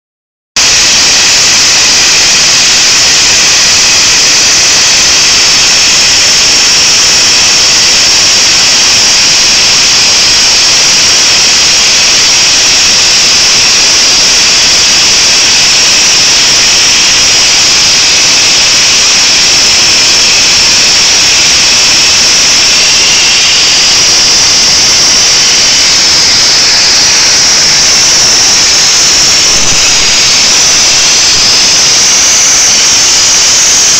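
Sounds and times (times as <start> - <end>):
plasma cutter hissing: 0.6 - 33.9.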